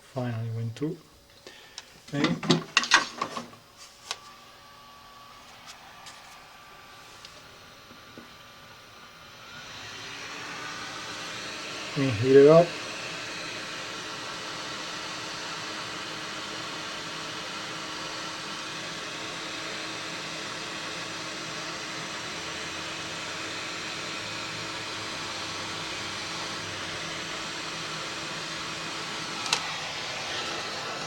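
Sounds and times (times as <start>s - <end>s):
heat gun blowing: 1.4s - 31.0s.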